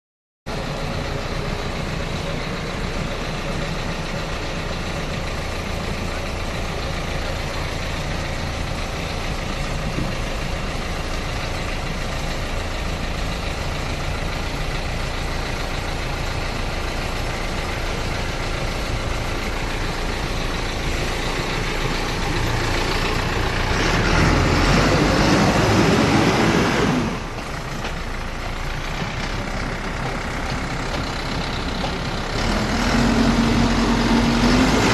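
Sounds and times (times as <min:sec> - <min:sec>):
excavator diesel engine running: 0:00.5 - 0:34.9.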